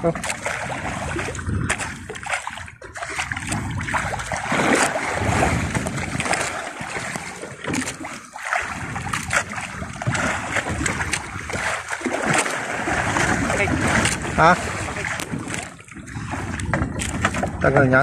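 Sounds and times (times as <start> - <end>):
sea splashing against boat hull: 0.0 - 18.0
wind buffeting microphone: 0.0 - 18.0.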